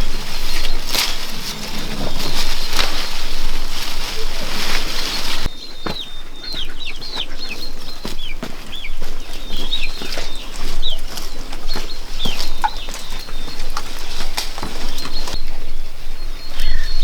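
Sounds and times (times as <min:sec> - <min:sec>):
poultry peeping: 0:00.0 - 0:17.0.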